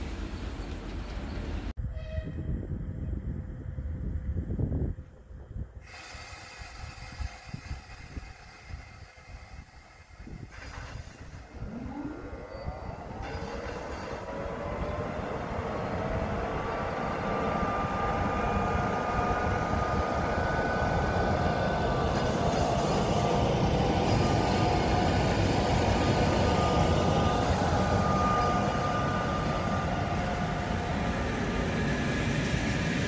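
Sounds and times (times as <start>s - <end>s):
train rumble: 0.0s - 33.0s
electric locomotive whining: 5.8s - 33.0s.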